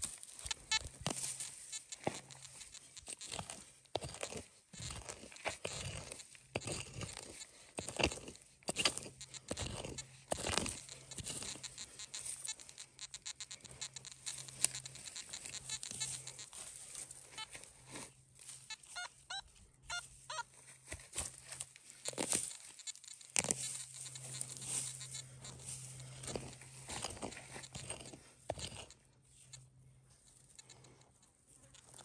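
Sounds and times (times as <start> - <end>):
metal detector short beeps: 0.0 - 31.2
hand tool digging into dry soil: 0.0 - 32.0.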